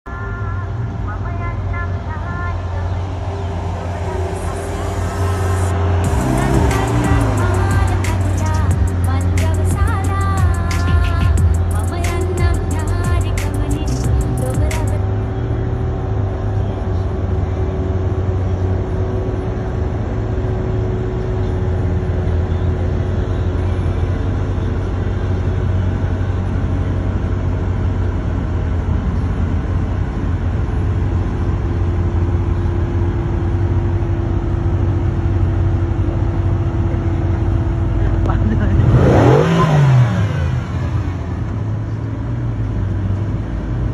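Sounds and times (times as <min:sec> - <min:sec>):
car engine and road drone: 0:00.0 - 0:43.9.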